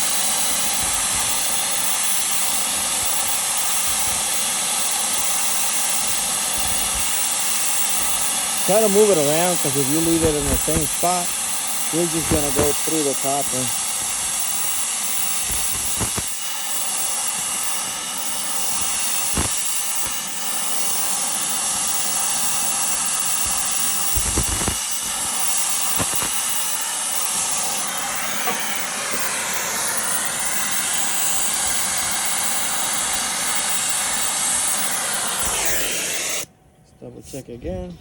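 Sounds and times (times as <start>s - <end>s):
torch flame hissing: 0.0s - 36.5s.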